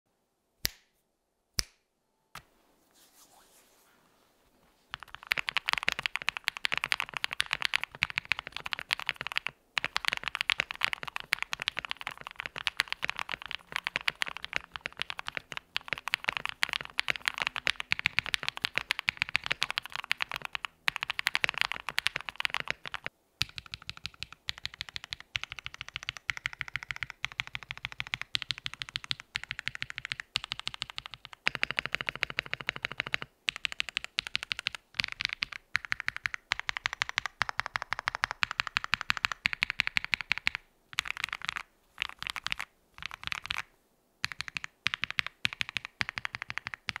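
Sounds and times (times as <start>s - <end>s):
fast typing on mechanical keyboard: 4.9s - 47.0s.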